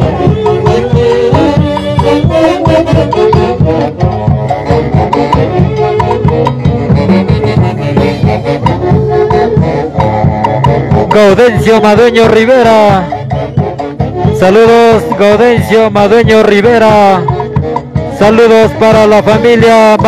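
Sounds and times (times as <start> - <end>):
horns playing a melody: 0.0 - 20.0
steady drum beat: 0.0 - 20.0.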